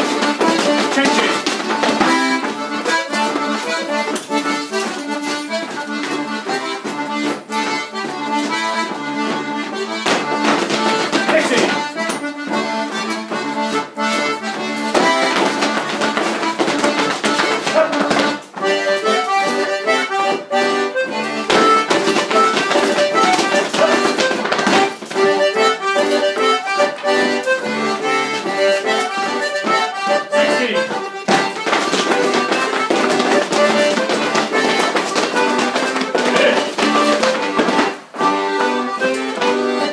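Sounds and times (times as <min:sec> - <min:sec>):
accordion playing a folk tune: 0:00.0 - 0:39.9.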